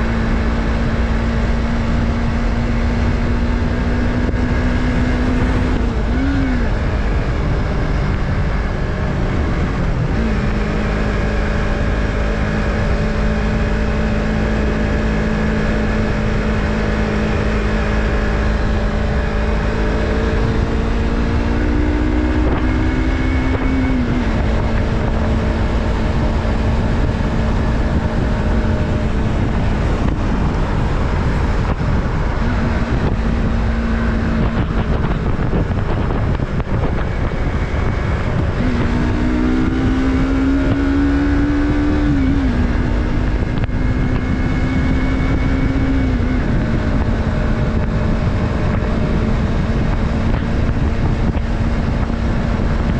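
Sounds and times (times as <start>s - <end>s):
motorcycle engine running: 0.0s - 52.9s
wind rumble on microphone: 0.0s - 52.9s.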